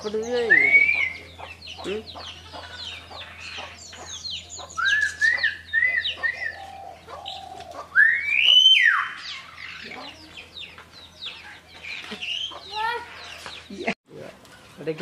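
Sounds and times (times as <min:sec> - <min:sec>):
myna bird whistling and chirping: 0:00.1 - 0:13.7.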